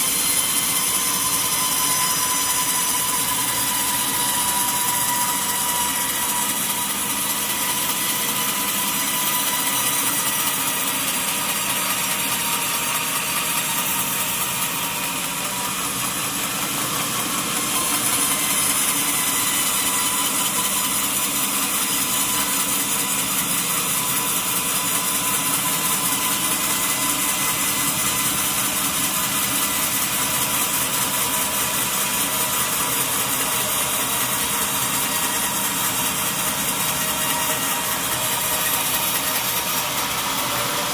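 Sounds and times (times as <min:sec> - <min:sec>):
sawmill saw cutting log: 0:00.0 - 0:40.9.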